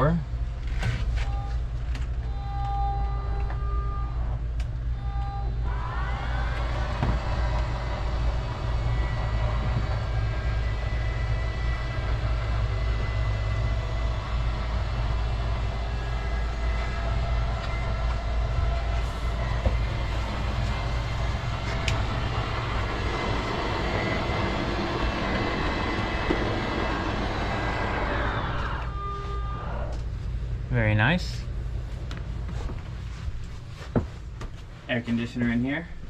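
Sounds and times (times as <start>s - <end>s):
steady low hum: 0.0s - 36.0s
slide-out motor whining: 0.7s - 30.4s.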